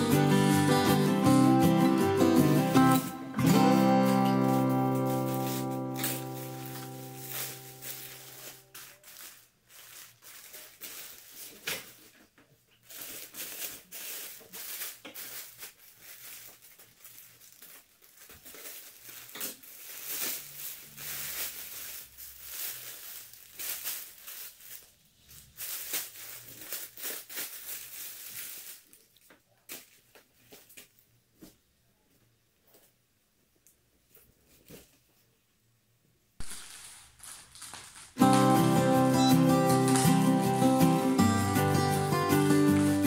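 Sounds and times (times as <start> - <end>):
plastic packaging crinkling: 2.6 - 31.2, 36.4 - 43.0.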